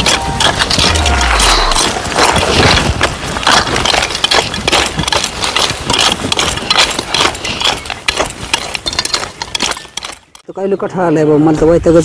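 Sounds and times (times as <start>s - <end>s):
hand weeders scraping soil: 0.0s - 10.4s.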